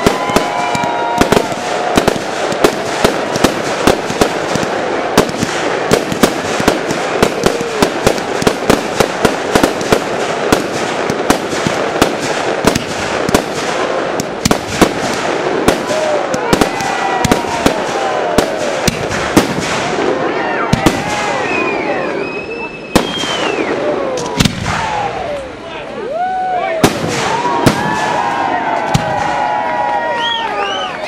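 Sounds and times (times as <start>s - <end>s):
fireworks crackling: 0.0s - 31.0s.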